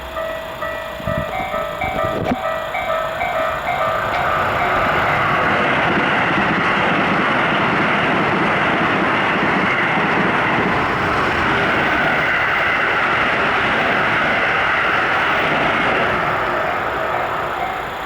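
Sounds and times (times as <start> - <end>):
train wheels rushing on rail: 0.0 - 18.0.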